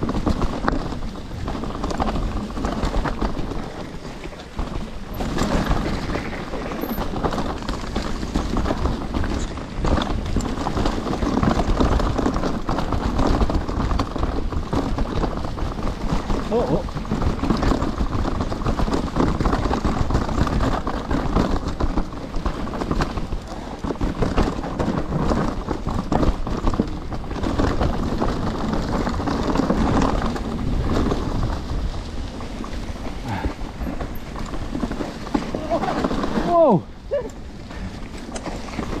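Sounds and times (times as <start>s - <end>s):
bike knocking and rattling: 0.0s - 39.0s
bike tyres rolling over dirt: 0.0s - 39.0s.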